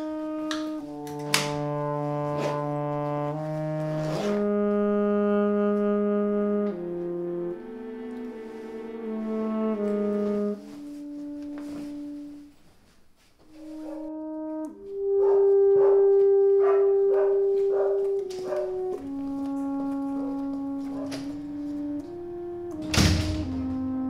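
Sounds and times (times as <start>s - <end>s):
slow brass film music: 0.0s - 24.0s.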